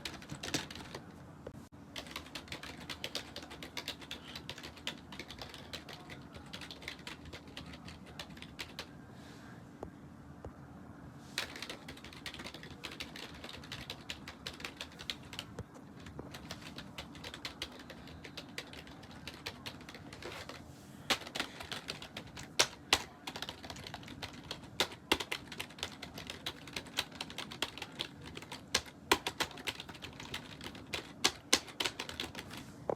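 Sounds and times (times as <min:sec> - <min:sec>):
computer keyboard typing: 0:00.0 - 0:01.1, 0:01.9 - 0:08.9, 0:11.4 - 0:32.6.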